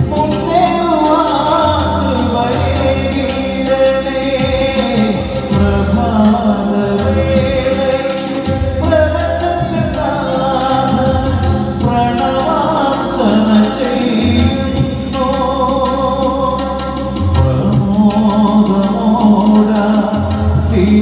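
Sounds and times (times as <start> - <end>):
bass: 0.0 - 21.0
electronic drum pad percussion: 0.0 - 21.0
keyboard: 0.0 - 21.0
man singing: 0.0 - 21.0.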